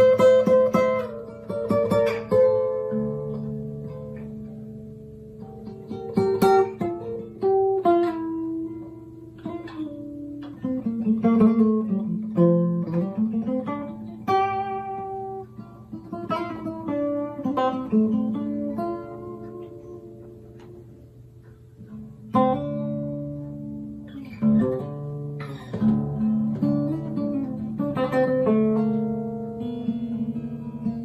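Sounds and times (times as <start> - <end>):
acoustic guitar music: 0.0 - 31.0.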